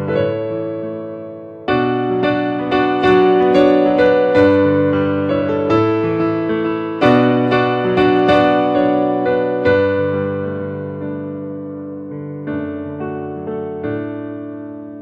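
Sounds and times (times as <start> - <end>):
electric piano playing chords: 0.0 - 15.0.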